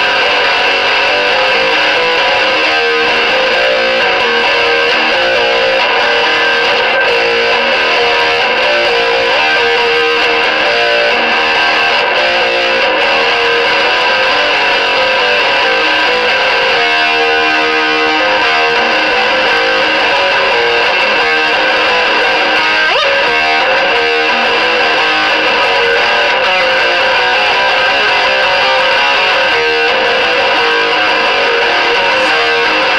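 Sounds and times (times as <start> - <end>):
distorted electric guitar riffing: 0.0 - 32.9.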